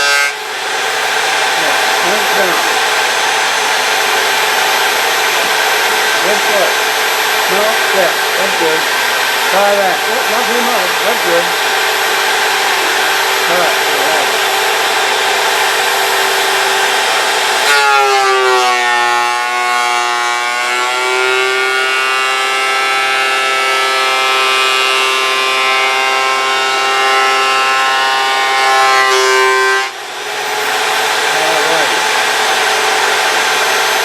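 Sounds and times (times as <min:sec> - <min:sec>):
electric wood planer whining: 0:00.0 - 0:34.0.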